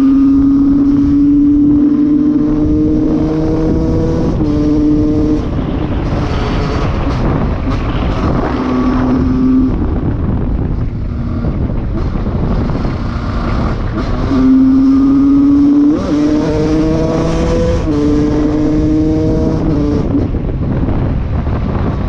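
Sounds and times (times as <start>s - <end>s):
motorcycle engine revving: 0.0s - 22.0s
wind noise on microphone: 0.0s - 22.0s.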